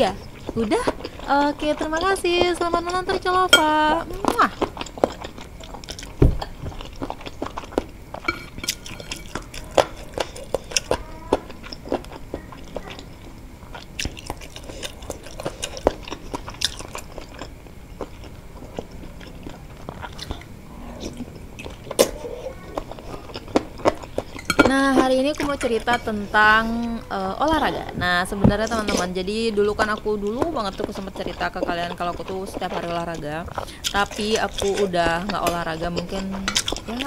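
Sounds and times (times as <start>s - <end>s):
person chewing wetly: 0.0s - 37.0s
sharp chewing clicks: 0.0s - 37.0s.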